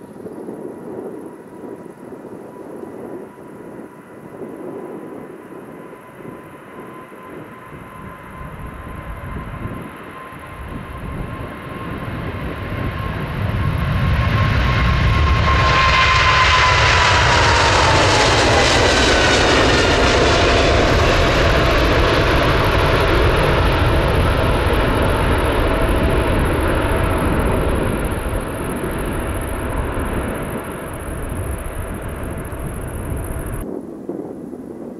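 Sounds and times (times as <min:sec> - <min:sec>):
jet engines at takeoff thrust: 0:00.0 - 0:34.8.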